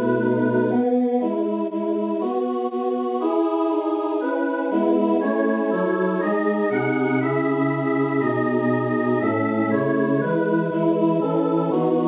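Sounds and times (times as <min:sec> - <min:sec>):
midi choral chords: 0:00.0 - 0:12.0.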